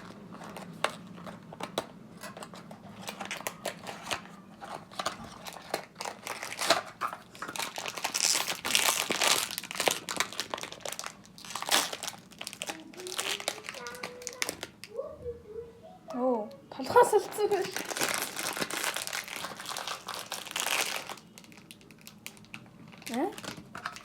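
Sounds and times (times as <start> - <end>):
packaging crinkling and tearing: 0.0 - 15.0, 17.0 - 24.0.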